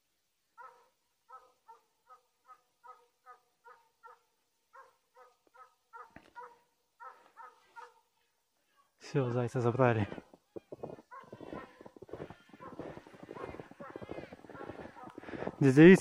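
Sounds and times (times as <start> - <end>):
hound barking faintly: 0.6 - 8.3, 9.1 - 16.0.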